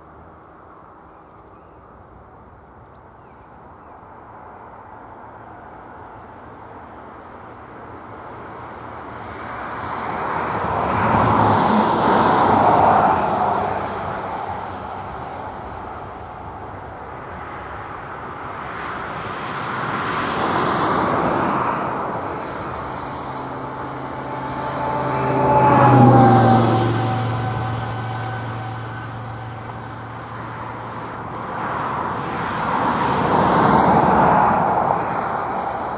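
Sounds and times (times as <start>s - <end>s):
road vehicles passing by: 0.0s - 35.9s.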